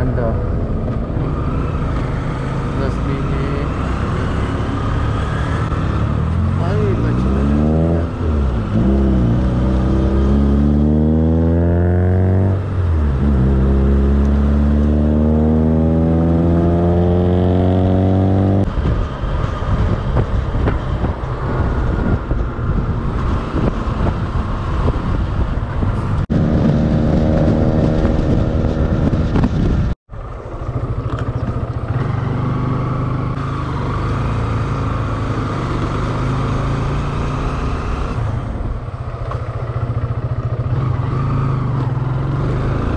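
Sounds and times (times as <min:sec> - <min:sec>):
motorcycle engine accelerating: 0:00.0 - 0:42.9
wind and road rush: 0:00.0 - 0:42.9.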